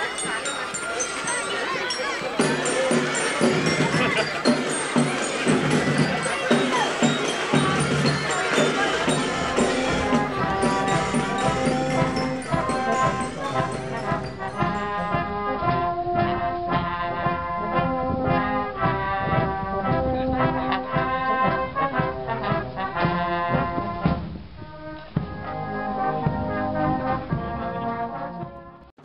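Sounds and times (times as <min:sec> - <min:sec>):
brass band playing chords: 0:00.0 - 0:28.9.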